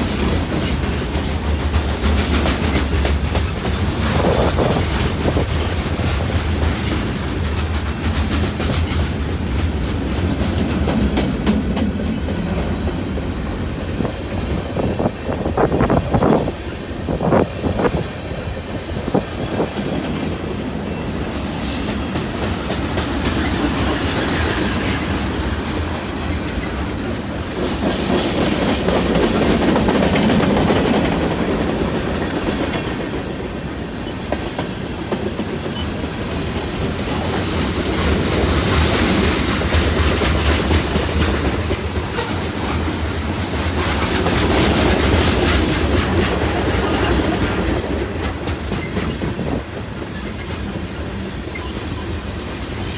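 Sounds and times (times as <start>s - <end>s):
rumble of rolling train cars: 0.0s - 52.9s
train wheels clacking over rail joints: 0.0s - 52.9s.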